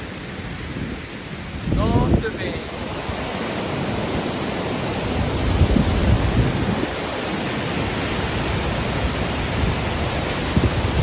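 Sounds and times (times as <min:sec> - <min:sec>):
waterfall crashing into pool: 0:00.0 - 0:11.0.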